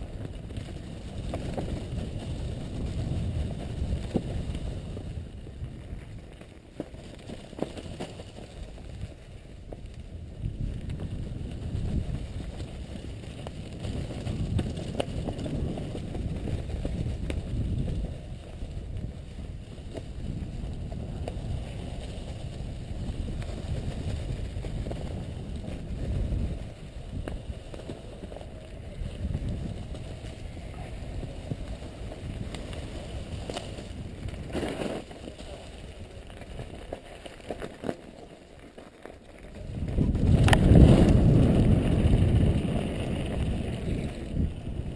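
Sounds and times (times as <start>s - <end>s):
wind rumble on microphone: 0.0s - 37.8s, 39.2s - 44.9s
bike rattling and clicking: 0.0s - 44.9s
tyres rolling over dry leaves: 0.0s - 44.9s.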